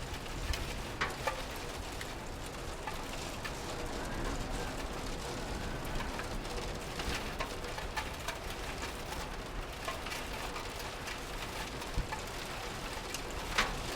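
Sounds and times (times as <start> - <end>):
louder raindrops tapping: 0.0 - 13.9
steady rain falling: 0.0 - 13.9.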